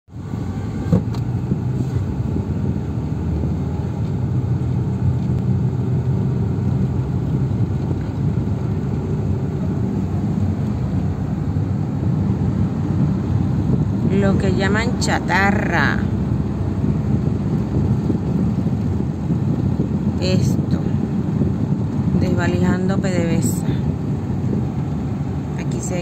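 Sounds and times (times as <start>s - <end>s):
car engine and road noise: 0.1s - 26.0s.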